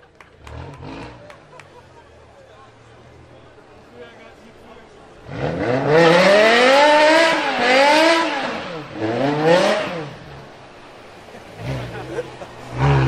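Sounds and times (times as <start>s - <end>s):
car engine revving: 0.2s - 3.8s, 4.8s - 13.0s.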